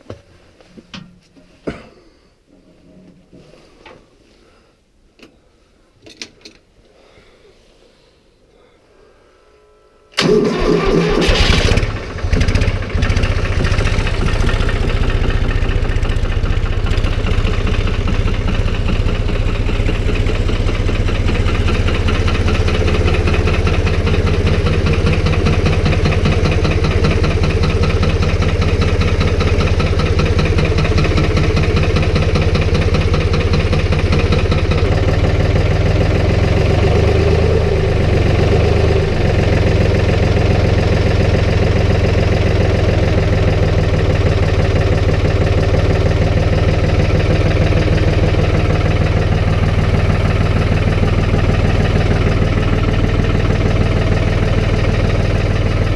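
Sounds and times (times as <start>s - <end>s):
snowplow engine running: 10.2s - 55.9s.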